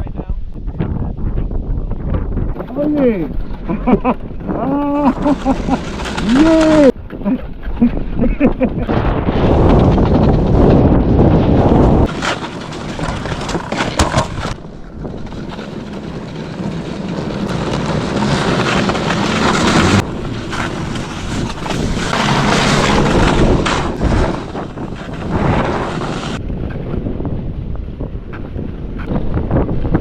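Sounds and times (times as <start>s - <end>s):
wind rushing over microphone: 0.0s - 30.0s
snow bike running noise: 1.0s - 30.0s.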